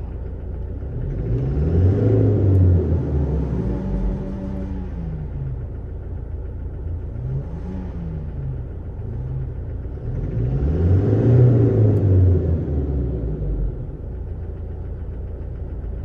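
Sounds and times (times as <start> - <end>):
diesel engine running rough: 0.0 - 16.0.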